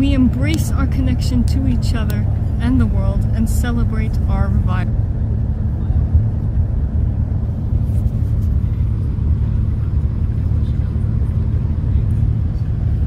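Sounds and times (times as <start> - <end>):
bus engine rumble: 0.0 - 13.0
faint steady hum: 0.0 - 13.0
road noise: 0.0 - 13.0.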